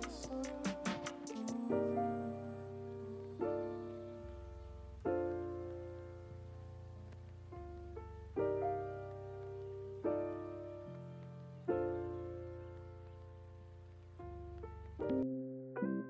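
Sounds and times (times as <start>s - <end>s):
slow piano chords: 0.0s - 16.0s
soft bass: 1.5s - 15.3s.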